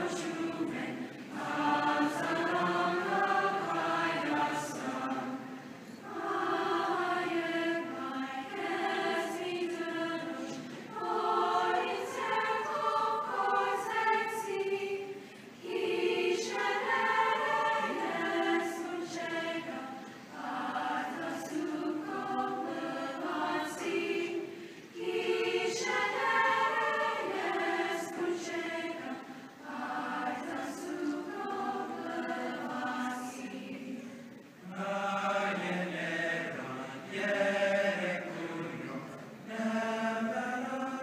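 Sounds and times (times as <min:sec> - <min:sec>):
choir singing sustained chords: 0:00.0 - 0:41.0.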